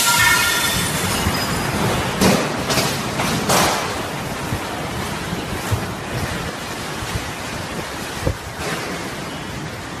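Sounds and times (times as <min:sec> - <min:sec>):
wind gusts buffeting microphone: 0:00.6 - 0:10.0.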